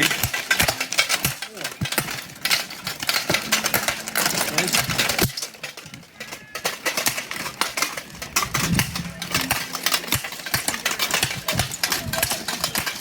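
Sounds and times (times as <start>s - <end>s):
steel armour and weapons clattering: 0.0s - 13.0s.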